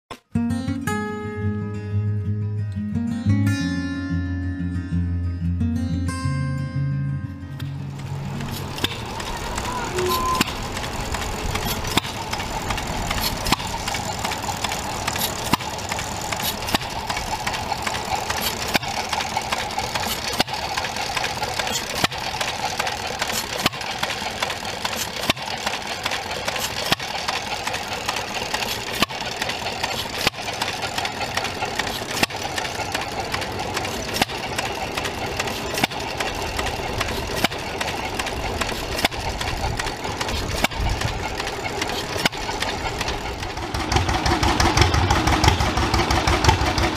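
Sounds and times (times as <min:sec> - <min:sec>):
engine firing pops: 0:07.6 - 0:09.4, 0:10.2 - 0:46.9
mechanical clatter: 0:07.6 - 0:46.9.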